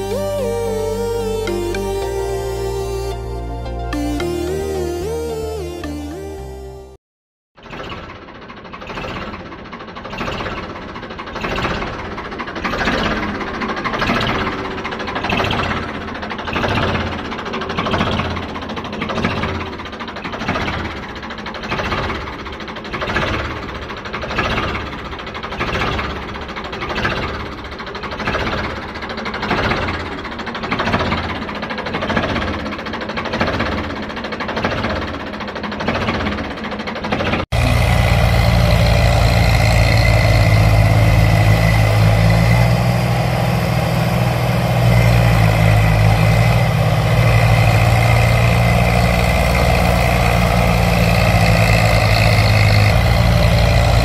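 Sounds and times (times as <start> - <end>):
tractor engine: 7.6 - 54.0.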